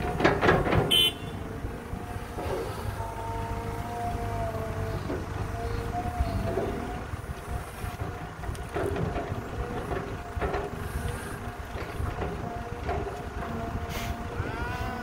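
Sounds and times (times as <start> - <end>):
excavator diesel engine under load: 0.0 - 15.0.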